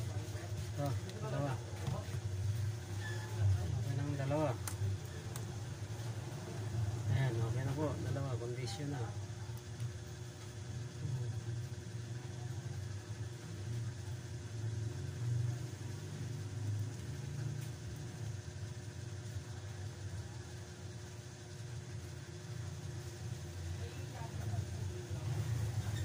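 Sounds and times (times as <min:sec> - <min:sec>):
low mechanical rumble: 0:00.0 - 0:26.0.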